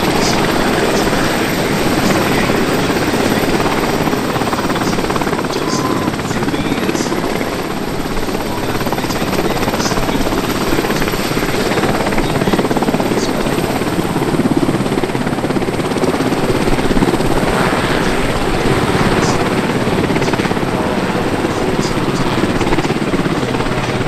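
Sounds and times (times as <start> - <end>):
helicopter rotor chop: 0.0 - 24.0
helicopter turbine engine noise: 0.0 - 24.0.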